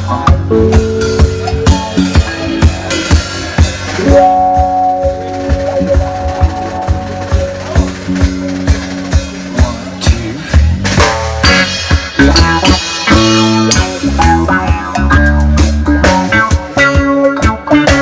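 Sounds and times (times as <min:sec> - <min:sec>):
drum kit beat: 0:00.0 - 0:18.0
rock band playing: 0:00.0 - 0:18.0.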